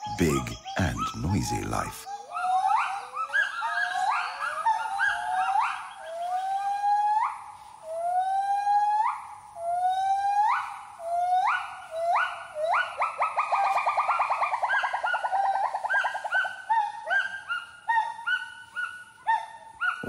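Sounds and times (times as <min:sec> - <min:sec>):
gibbon whooping calls: 0:02.1 - 0:19.4.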